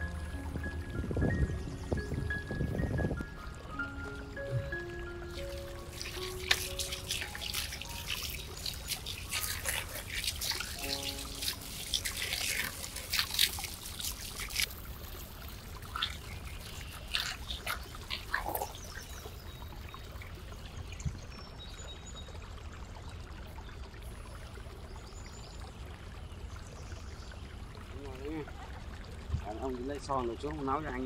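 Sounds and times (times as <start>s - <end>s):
water trickling: 0.0s - 31.0s.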